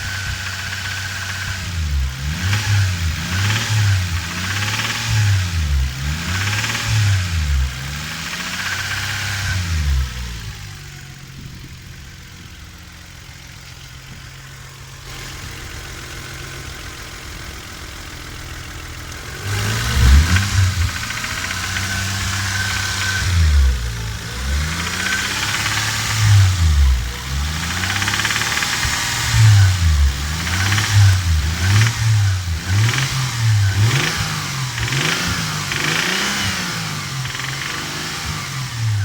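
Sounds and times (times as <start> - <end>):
car engine idling and revving: 0.0 - 39.0.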